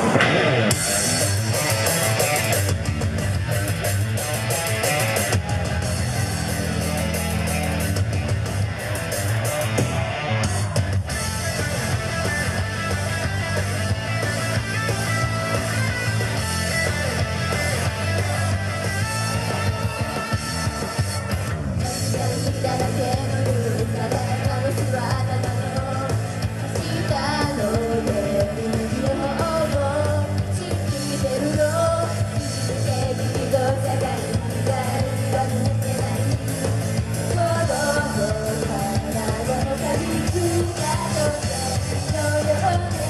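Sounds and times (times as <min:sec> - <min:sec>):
rock band backing: 0:00.0 - 0:43.0.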